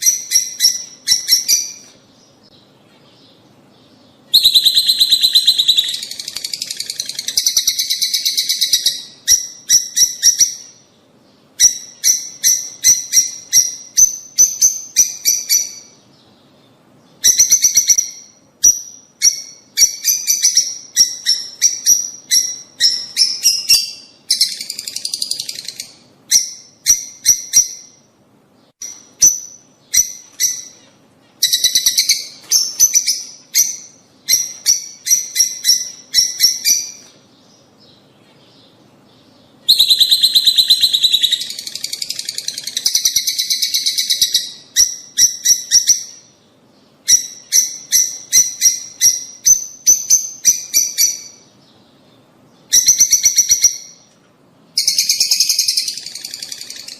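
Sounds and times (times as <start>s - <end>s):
lovebirds chirping and chattering: 0.0s - 54.2s, 54.8s - 56.9s.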